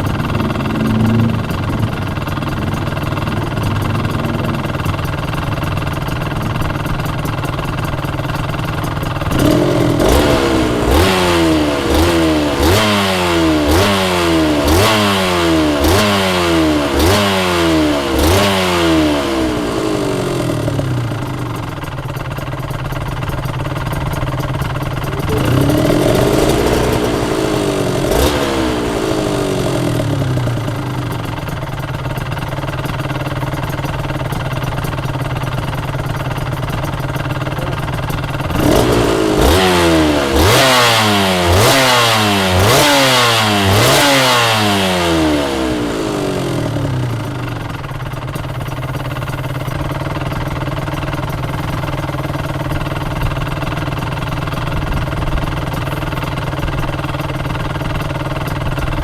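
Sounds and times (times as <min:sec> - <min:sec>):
motorcycle engine idling: 0:00.0 - 0:59.0
motorcycle engine revving: 0:00.0 - 0:59.0.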